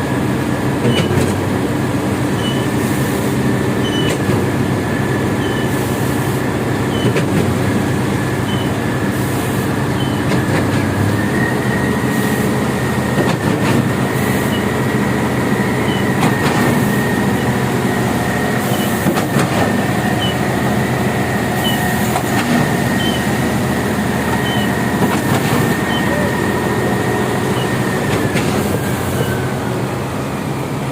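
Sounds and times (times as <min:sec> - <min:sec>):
diesel concrete pump running: 0:00.0 - 0:30.9.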